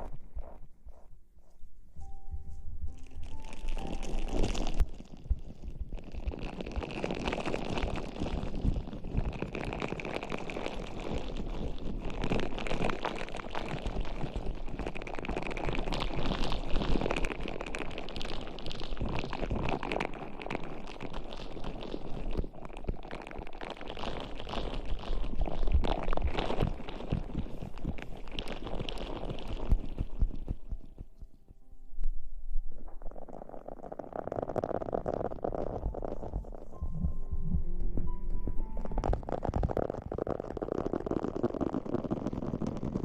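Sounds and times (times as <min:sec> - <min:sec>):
crackling and rustling at microphone: 0:00.0 - 0:43.0.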